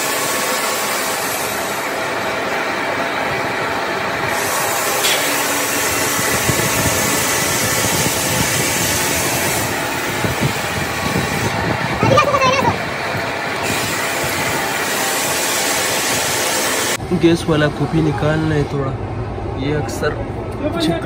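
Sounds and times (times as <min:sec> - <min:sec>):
stone-cutting machinery running: 0:00.0 - 0:17.0.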